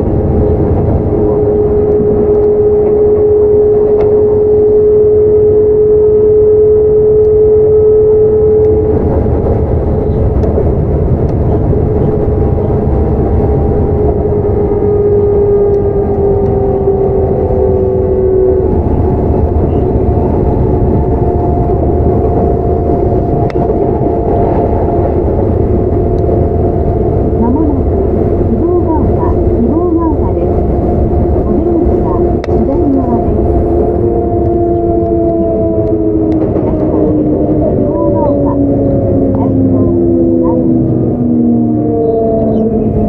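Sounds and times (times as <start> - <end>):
electric train motor whine: 0.0 - 43.0
wheels rumbling on rail: 0.0 - 43.0.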